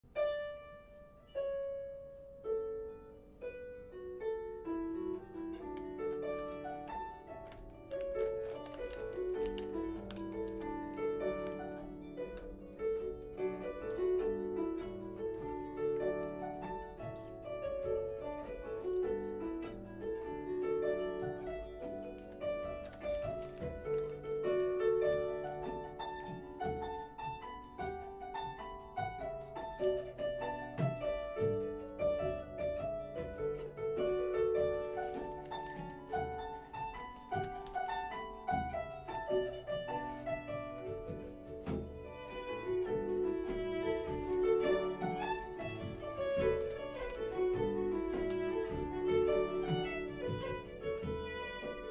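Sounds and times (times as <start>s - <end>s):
harp playing a tune: 0.0s - 51.9s.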